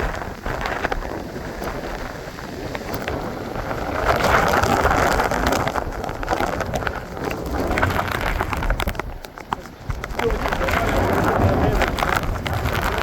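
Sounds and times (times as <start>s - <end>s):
rain falling: 0.0s - 13.0s
wind buffeting microphone: 0.0s - 13.0s.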